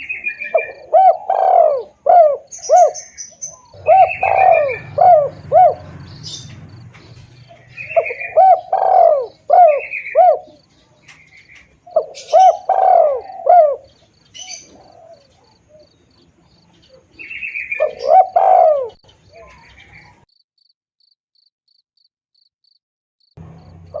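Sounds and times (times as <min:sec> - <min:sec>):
dove cooing: 0:00.0 - 0:20.2
insect chirping: 0:00.0 - 0:24.0.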